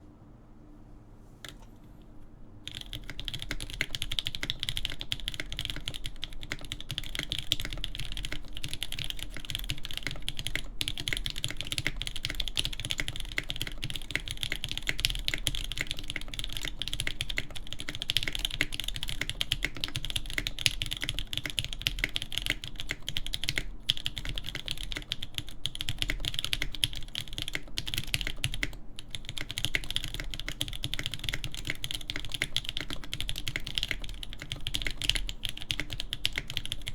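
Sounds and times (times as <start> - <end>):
typing on mechanical keyboard: 2.7 - 36.9.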